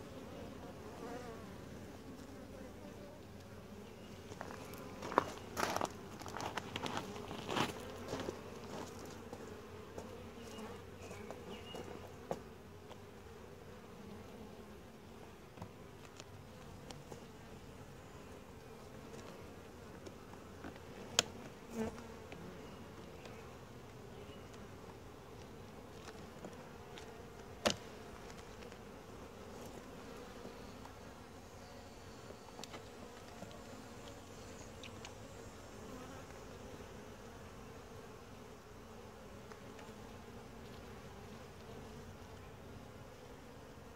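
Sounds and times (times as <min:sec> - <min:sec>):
bees humming: 0:00.0 - 0:43.9.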